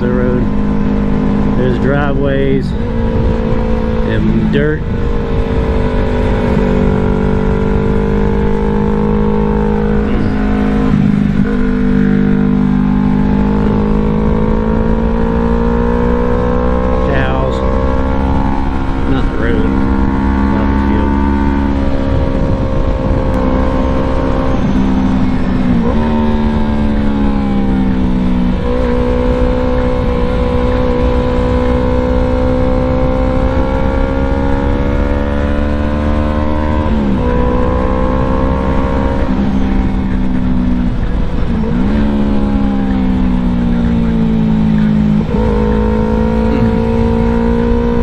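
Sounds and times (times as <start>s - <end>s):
motorcycle engine shifting gears: 0.0s - 48.0s
wind noise: 0.0s - 48.0s.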